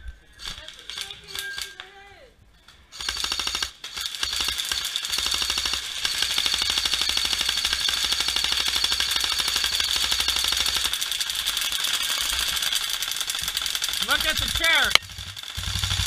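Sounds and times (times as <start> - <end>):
airsoft rifle rapid fire: 3.0 - 16.0.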